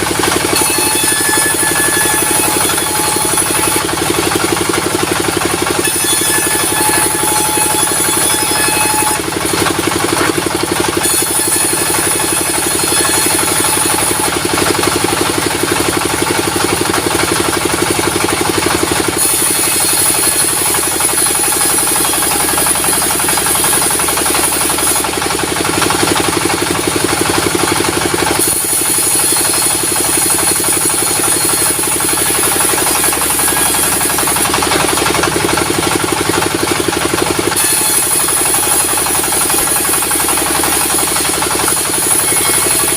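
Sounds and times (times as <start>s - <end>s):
sawmill engine beating rapidly: 0.0s - 42.9s.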